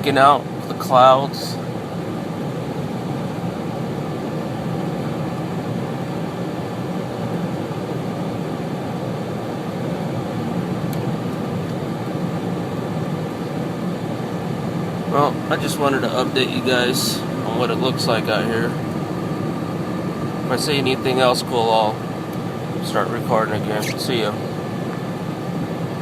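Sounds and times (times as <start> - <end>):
car engine and tyre noise: 1.9 - 26.0.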